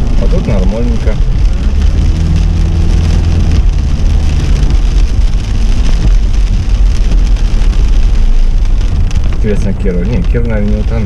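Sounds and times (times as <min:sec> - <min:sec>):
car engine hum: 0:00.0 - 0:11.0
heavy rain pelting a car: 0:00.0 - 0:11.0
wet road noise: 0:00.0 - 0:11.0.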